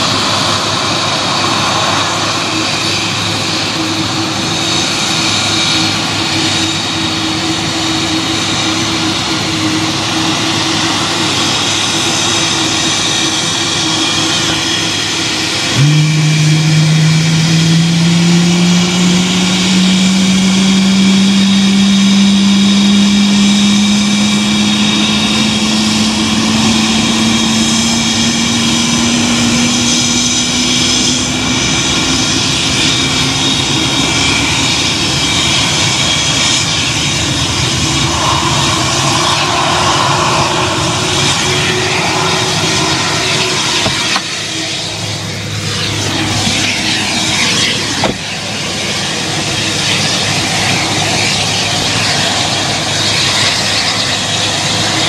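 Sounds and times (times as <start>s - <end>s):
jet engine spooling up: 0.0s - 55.0s
steady high jet whine: 0.0s - 55.0s.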